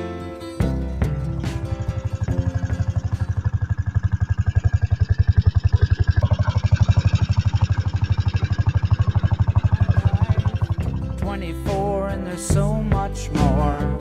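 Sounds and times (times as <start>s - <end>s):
tractor engine chugging: 0.6s - 12.0s.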